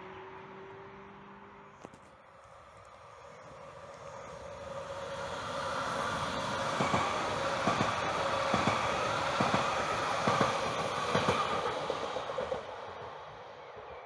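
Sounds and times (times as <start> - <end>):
train passing with rumble and whine: 0.0 - 14.0.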